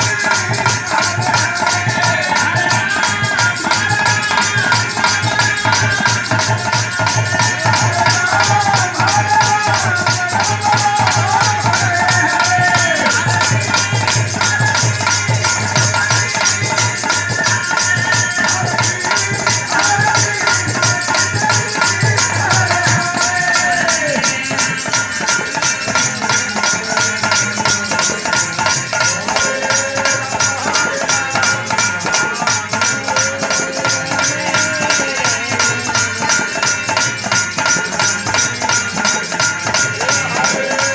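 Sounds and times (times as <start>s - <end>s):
jingling shaken percussion: 0.0s - 40.9s.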